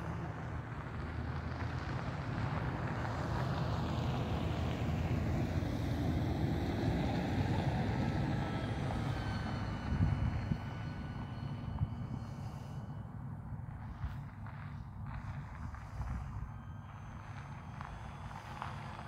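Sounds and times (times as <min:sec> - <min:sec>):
distant traffic: 0:00.0 - 0:19.0
faint thin whine: 0:00.0 - 0:19.0
wind rumble on microphone: 0:00.0 - 0:19.0.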